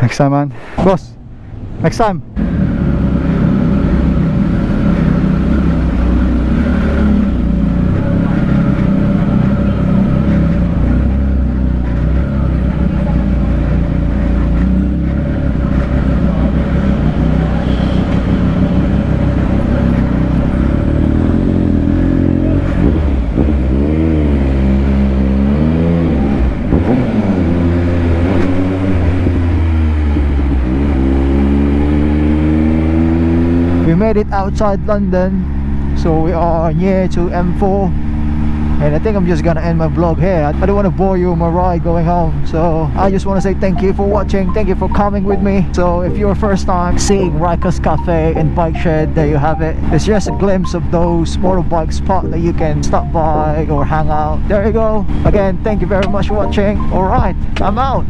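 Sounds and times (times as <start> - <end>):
motorcycle engine revving: 2.3 - 58.0.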